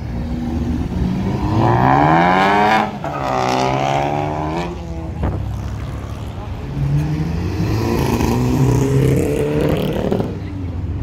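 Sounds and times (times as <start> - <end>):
car engine accelerating: 0.2 - 10.5.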